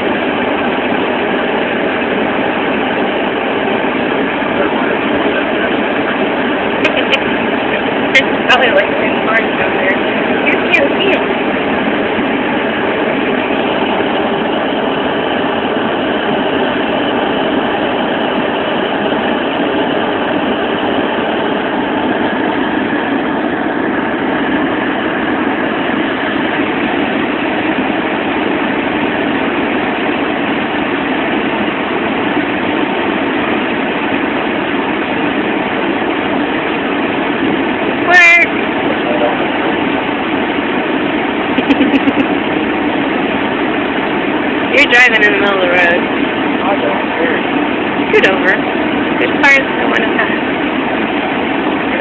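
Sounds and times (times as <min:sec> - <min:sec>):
car cabin engine and road noise: 0:00.0 - 0:52.0.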